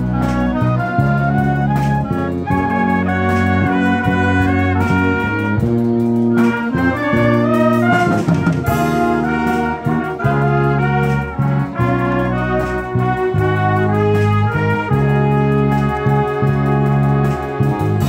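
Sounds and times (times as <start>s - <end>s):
wind band playing a ballad: 0.0s - 18.0s.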